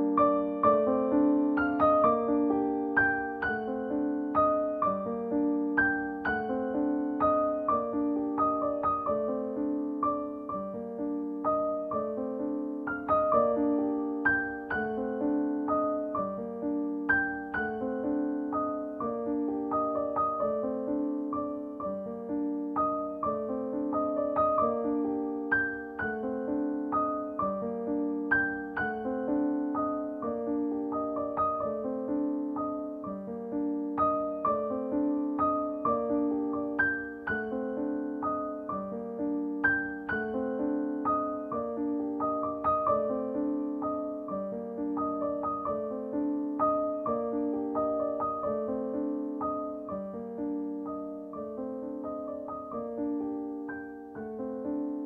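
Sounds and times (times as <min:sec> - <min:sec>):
gentle solo piano: 0:00.0 - 0:55.0.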